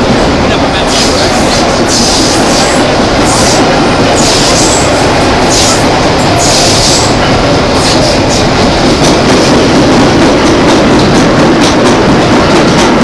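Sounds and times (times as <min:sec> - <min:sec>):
subway car rumble and rattle: 0:00.0 - 0:13.0.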